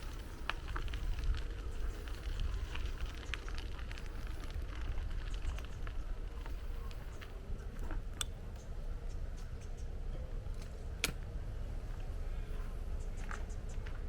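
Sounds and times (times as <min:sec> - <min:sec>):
bicycle tyres crackling and clicking: 0:00.0 - 0:11.4
low wind rumble on microphone: 0:00.0 - 0:14.0.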